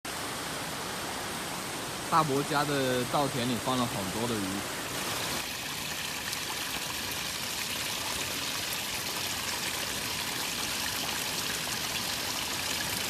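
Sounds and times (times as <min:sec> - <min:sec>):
running water rushing: 0:00.1 - 0:13.0.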